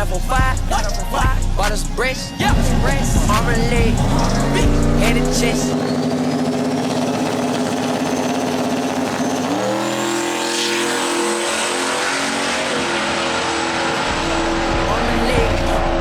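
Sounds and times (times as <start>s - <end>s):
car engine running hard: 0.0s - 16.0s.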